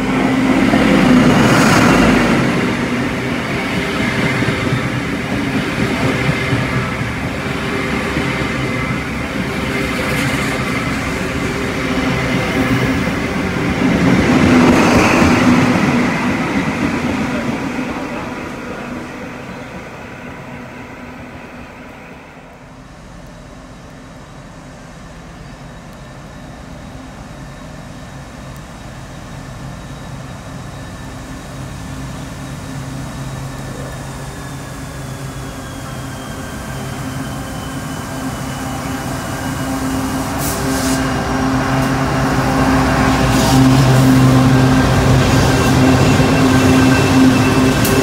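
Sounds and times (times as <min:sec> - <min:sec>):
locomotive engine hum: 0:00.0 - 0:48.0
passenger train passing: 0:00.0 - 0:48.0.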